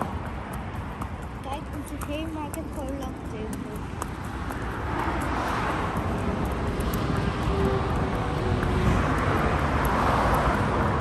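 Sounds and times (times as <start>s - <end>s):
traffic rumble: 0.0s - 11.0s
vehicles whooshing past: 0.0s - 11.0s.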